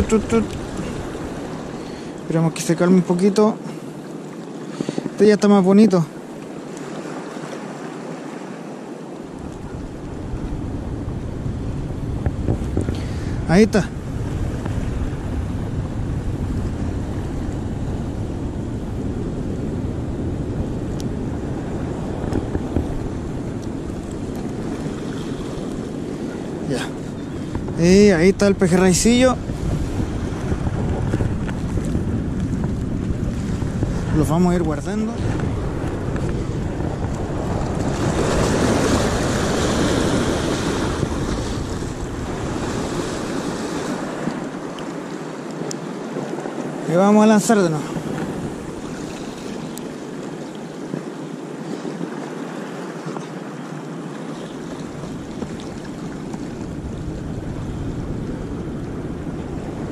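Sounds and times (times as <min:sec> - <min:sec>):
wind noise on microphone: 0:00.0 - 0:02.7, 0:04.0 - 0:08.3, 0:09.2 - 0:59.9
sea washing on shore: 0:00.0 - 0:59.9.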